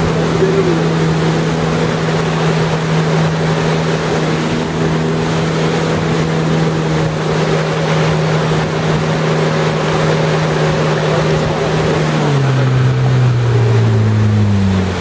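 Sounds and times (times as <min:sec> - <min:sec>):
jet ski engine running: 0:00.0 - 0:15.0
water rushing along hull: 0:00.0 - 0:15.0.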